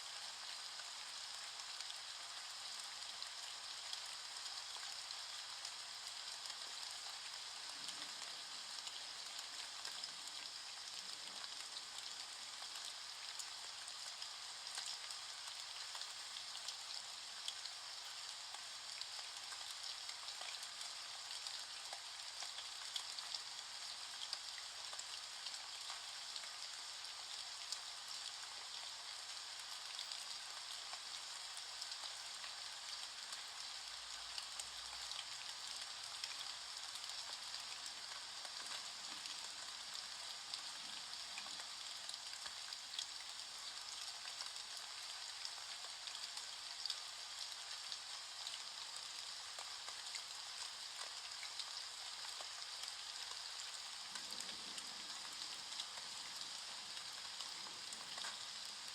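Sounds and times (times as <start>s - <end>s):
steady rain patter: 0.0s - 58.9s.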